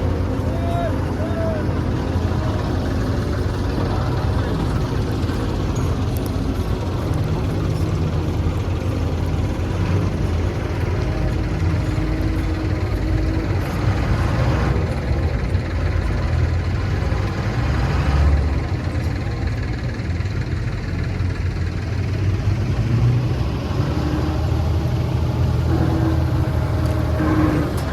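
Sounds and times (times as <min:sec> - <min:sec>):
heavy diesel engine running: 0:00.0 - 0:27.9.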